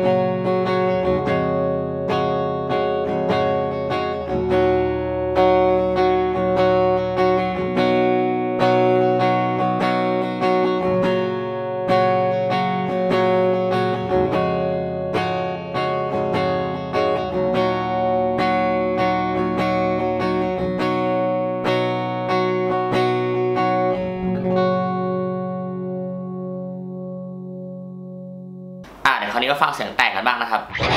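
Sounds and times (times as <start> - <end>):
clean electric guitar playing: 0.0 - 29.0, 30.7 - 30.9.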